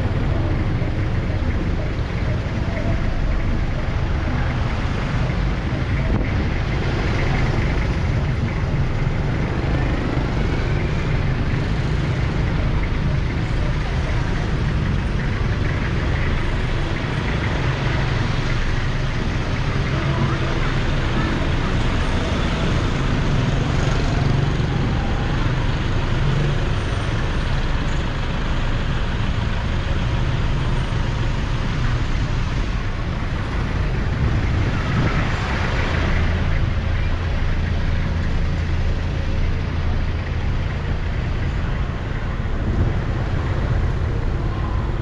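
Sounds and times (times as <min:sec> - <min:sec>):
street traffic noise: 0:00.0 - 0:45.0.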